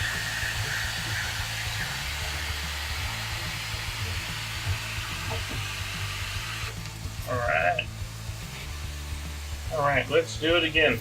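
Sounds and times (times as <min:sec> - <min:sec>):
vacuum rushing hiss: 0:00.0 - 0:11.0.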